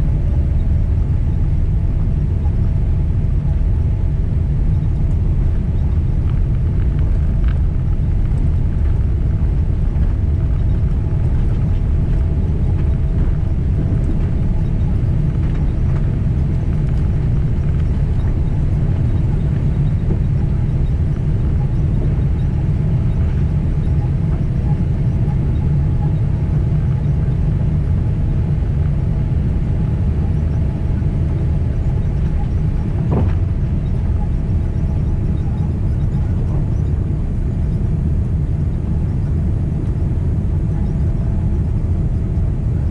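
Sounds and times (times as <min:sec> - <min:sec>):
jet engines and airflow rumble: 0:00.0 - 0:42.9.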